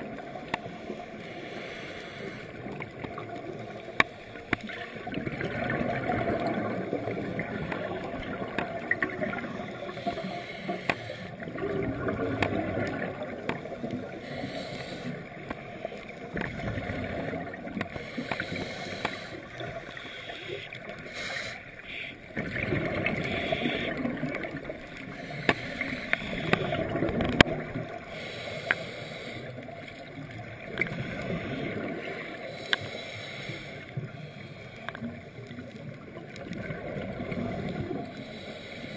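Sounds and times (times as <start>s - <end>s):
underwater regulator bubbles gurgling: 0.0s - 38.9s.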